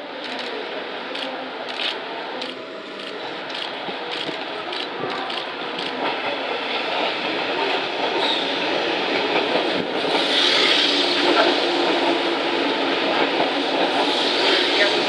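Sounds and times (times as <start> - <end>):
electric train arriving: 0.0 - 15.0.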